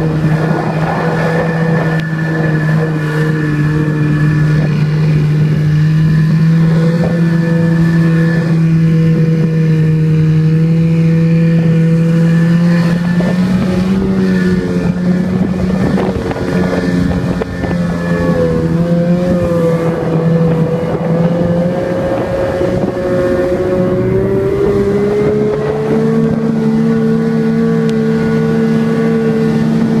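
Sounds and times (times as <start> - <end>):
snowmobile engine running: 0.0 - 30.0.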